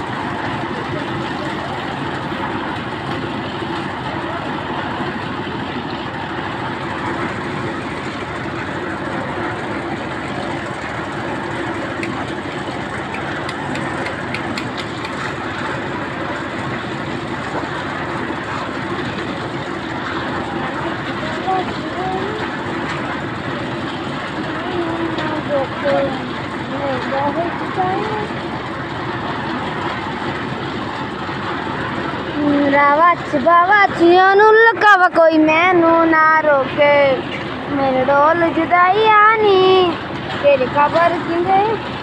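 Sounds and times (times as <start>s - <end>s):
motor engine running steadily: 0.0s - 42.0s.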